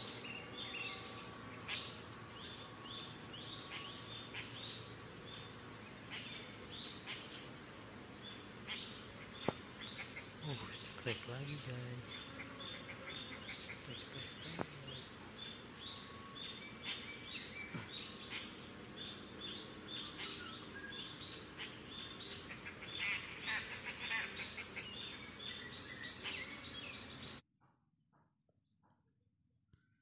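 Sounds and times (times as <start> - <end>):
birds chirping: 0.0 - 27.4
outdoor background hiss: 0.0 - 27.4.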